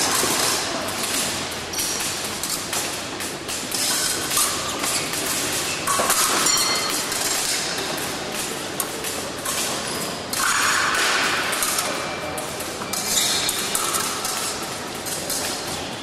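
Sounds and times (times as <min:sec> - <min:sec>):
fencing blades clattering: 0:00.0 - 0:16.0.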